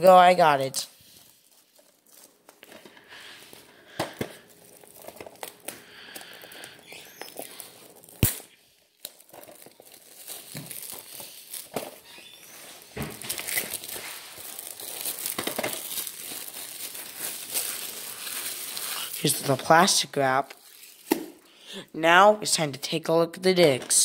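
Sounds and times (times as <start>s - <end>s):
shrink wrap peeling and crinkling: 0.0s - 21.5s.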